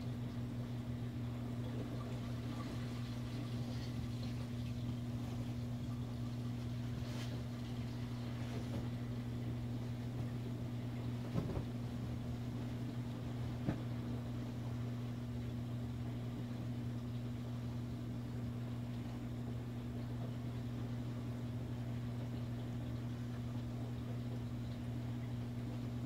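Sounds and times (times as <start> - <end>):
aquarium pump hum: 0.0 - 26.0
circulating water rushing: 0.0 - 26.0.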